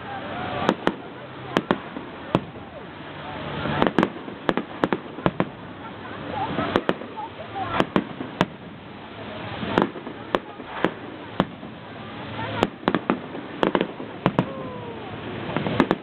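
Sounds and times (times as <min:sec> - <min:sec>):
fireworks bangs: 0:00.0 - 0:16.0
fireworks crackle: 0:00.0 - 0:16.0.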